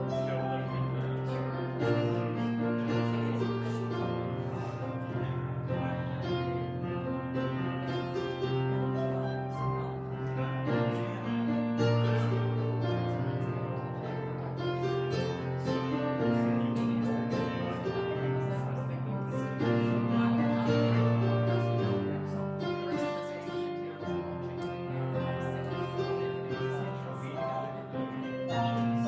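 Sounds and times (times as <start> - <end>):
slow keyboard chords: 0.0 - 29.0.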